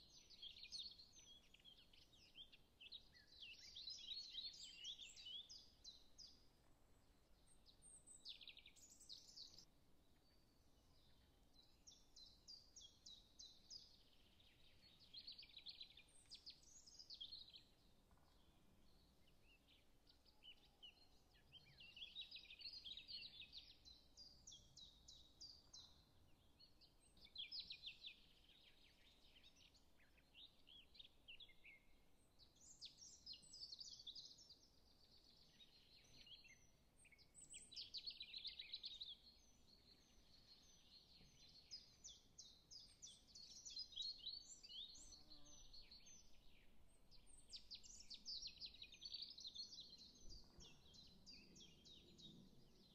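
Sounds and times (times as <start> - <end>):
faint birdsong: 0.0 - 52.9.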